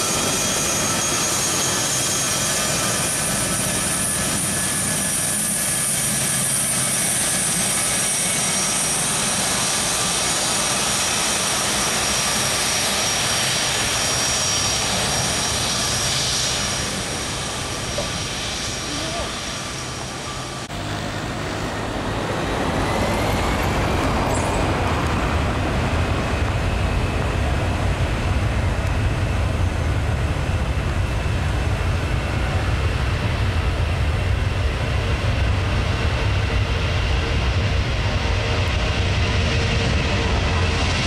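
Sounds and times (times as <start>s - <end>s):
jet engines spooling up: 0.0s - 41.0s.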